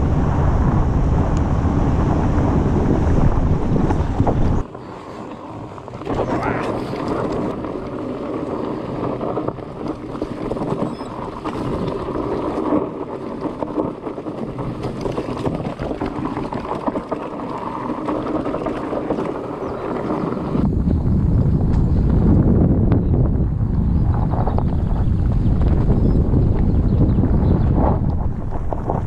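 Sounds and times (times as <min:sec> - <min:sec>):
bike tyres rolling over dirt trail: 0:00.0 - 0:29.0
wind on microphone: 0:00.0 - 0:29.0.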